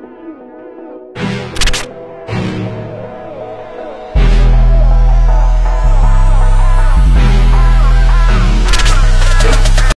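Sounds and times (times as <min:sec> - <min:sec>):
background music with heavy bass: 0:00.0 - 0:10.0.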